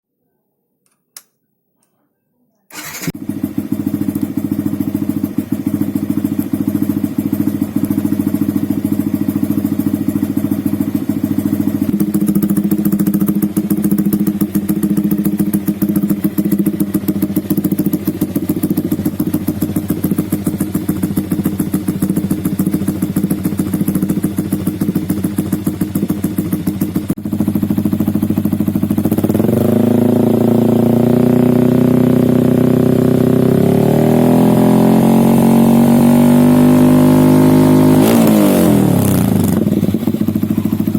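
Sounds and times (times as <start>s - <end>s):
motorcycle engine idling and revving: 2.7s - 40.9s.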